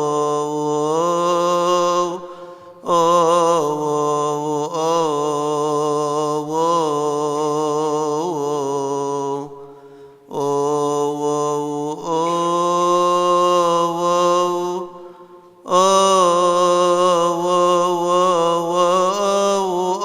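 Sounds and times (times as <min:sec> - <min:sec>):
man chanting a hymn: 0:00.0 - 0:20.0.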